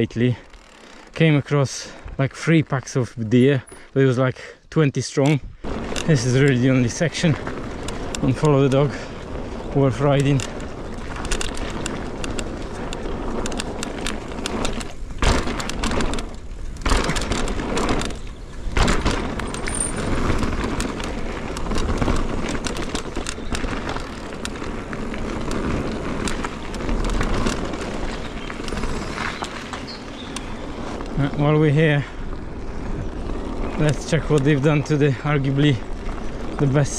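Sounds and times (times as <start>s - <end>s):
bike rattles and knocks: 0.0s - 4.0s, 5.2s - 36.9s
tyres rolling over dirt and stones: 0.0s - 4.2s, 5.0s - 36.9s.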